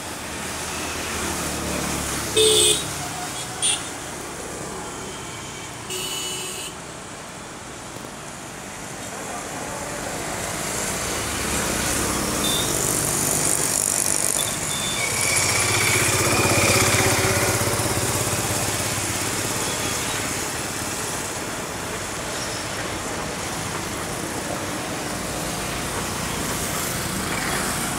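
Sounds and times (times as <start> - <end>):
road traffic rumble: 0.0 - 27.9.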